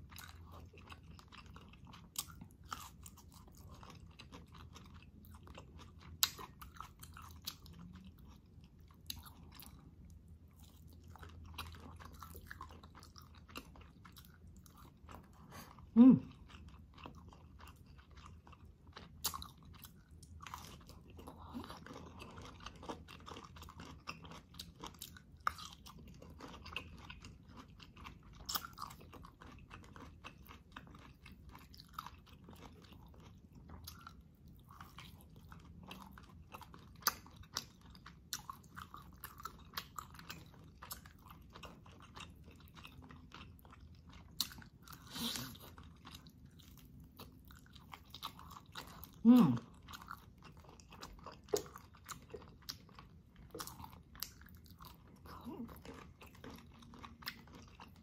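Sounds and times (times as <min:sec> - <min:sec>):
chewing and biting food: 0:00.0 - 0:58.0.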